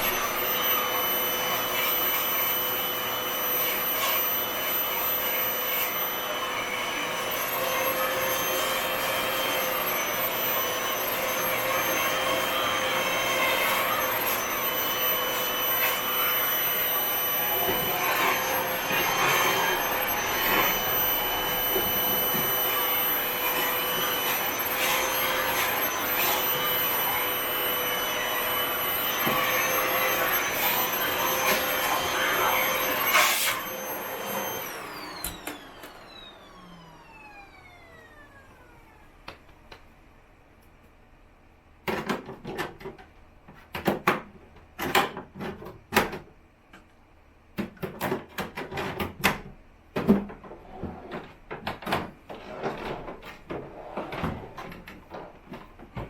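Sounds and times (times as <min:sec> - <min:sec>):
vacuum cleaner motor whine: 0:00.0 - 0:39.7, 0:50.0 - 0:56.0.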